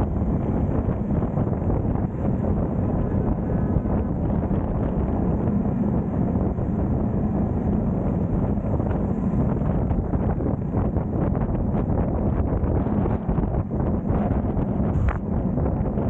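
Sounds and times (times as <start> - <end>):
engine hum: 0.0 - 16.0
road noise: 0.0 - 16.0
wind buffeting microphone: 0.0 - 16.0.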